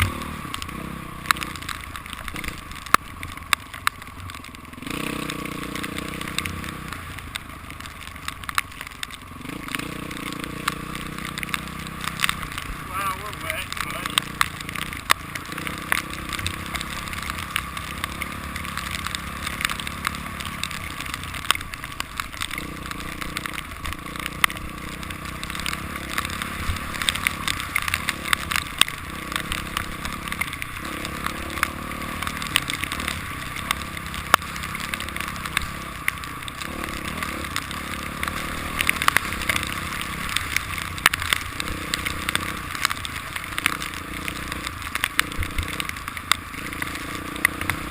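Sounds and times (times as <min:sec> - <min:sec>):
dirt bike engine revving: 0:00.0 - 0:01.7, 0:04.7 - 0:07.1, 0:09.3 - 0:21.3, 0:22.4 - 0:47.9
crackle of sharp ticks: 0:00.0 - 0:47.9.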